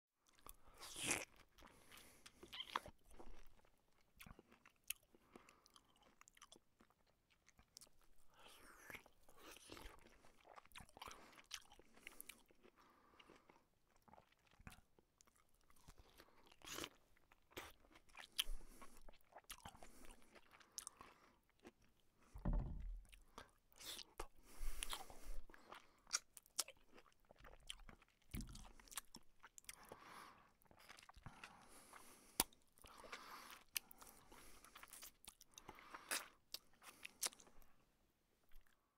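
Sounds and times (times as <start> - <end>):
person chewing and crunching food: 0.2 - 38.9.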